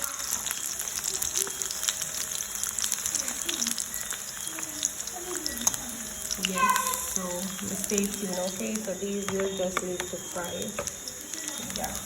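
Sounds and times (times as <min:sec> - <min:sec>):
frying in hot oil sizzling: 0:00.0 - 0:12.0.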